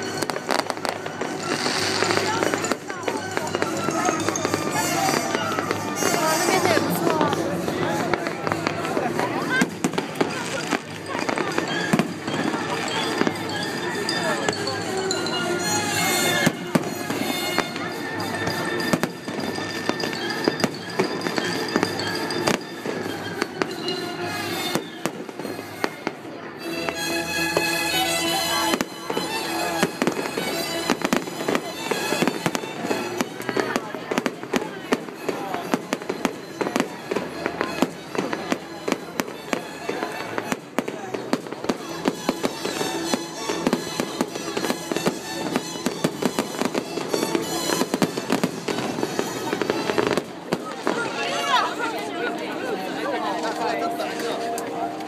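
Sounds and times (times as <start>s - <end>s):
fireworks bangs: 0.0s - 23.8s, 28.5s - 51.9s
fireworks crackle and rumble: 0.0s - 55.0s
music playing: 0.0s - 55.0s.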